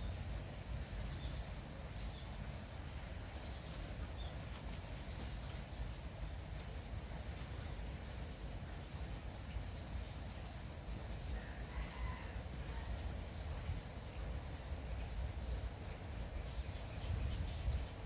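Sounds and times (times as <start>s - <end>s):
birds chirping: 0.0s - 18.0s
light drizzle: 0.0s - 18.0s.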